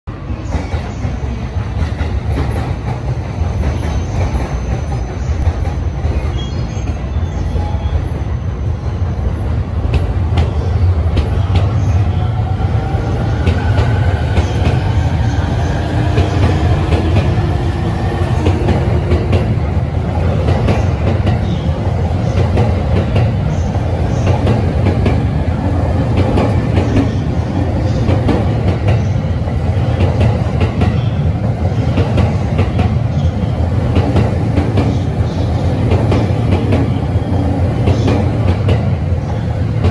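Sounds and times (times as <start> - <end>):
train rumble: 0.1 - 39.9.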